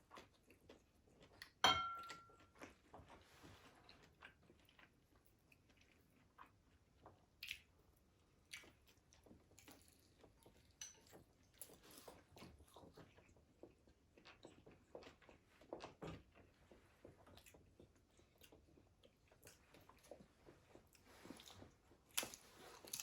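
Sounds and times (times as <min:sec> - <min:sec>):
person chewing and eating: 0:00.0 - 0:23.0.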